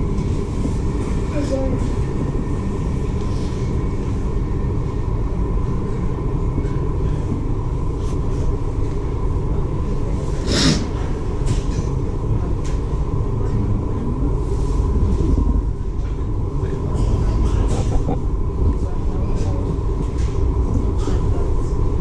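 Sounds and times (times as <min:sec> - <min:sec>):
faint steady hum: 0:00.0 - 0:22.0
ferry engine rumble: 0:00.0 - 0:22.0.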